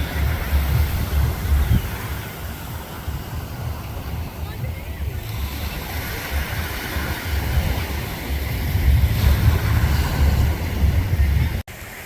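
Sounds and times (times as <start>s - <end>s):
ocean surf washing: 0.0s - 12.0s
wind buffeting microphone: 0.0s - 12.0s.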